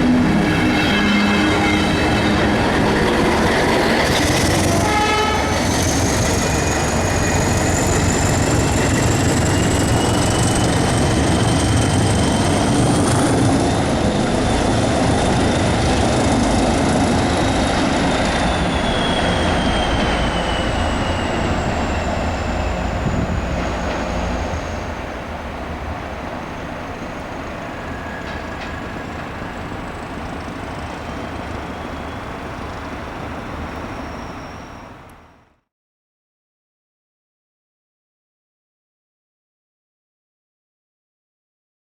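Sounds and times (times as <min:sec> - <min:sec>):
diesel train running: 0:00.0 - 0:35.6.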